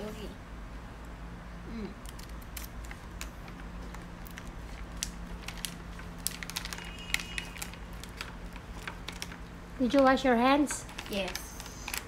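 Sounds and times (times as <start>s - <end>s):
faint steady hum: 0.0s - 12.0s
plastic crinkling: 2.0s - 12.0s.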